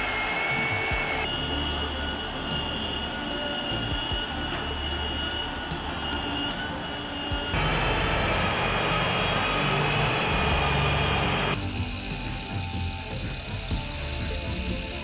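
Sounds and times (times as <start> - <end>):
machine motor hissing and whining: 0.0 - 15.0.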